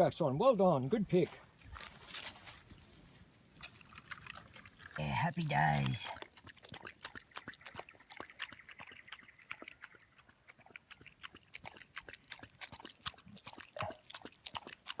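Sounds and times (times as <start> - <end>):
crunchy chewing: 1.2 - 5.1, 5.7 - 15.0.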